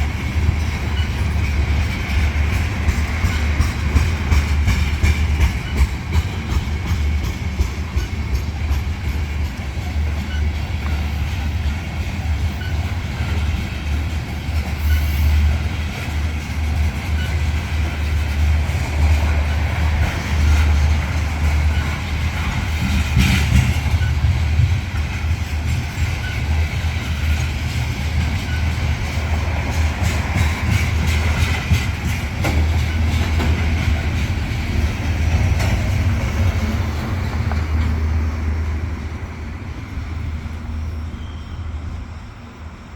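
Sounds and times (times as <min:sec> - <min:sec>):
train wheels clicking on rails: 0:00.0 - 0:40.9
freight train rumbling past: 0:00.0 - 0:42.9.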